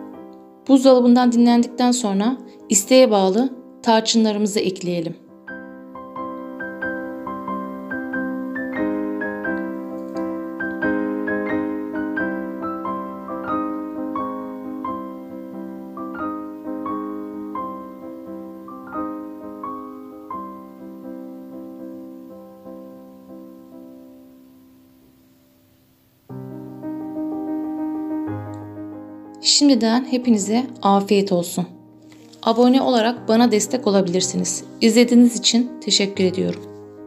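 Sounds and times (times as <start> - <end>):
gentle piano music: 0.0 - 25.1, 26.2 - 37.0.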